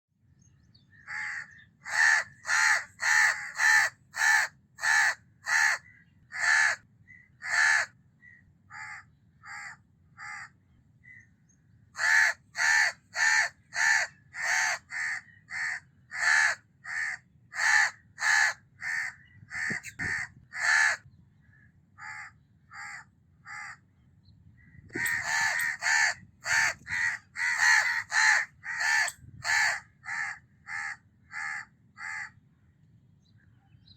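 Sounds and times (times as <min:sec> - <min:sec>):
crows cawing: 0:01.0 - 0:06.8, 0:07.4 - 0:08.0, 0:08.7 - 0:10.6, 0:12.0 - 0:23.8, 0:25.0 - 0:32.4.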